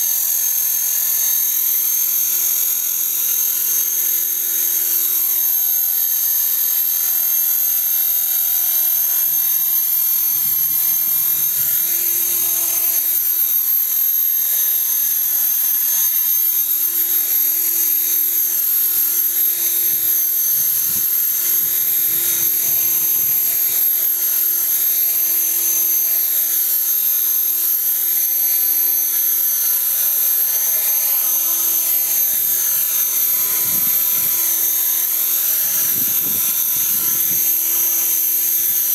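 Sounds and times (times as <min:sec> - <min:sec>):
high-pitched motor whine: 0:00.0 - 0:38.9.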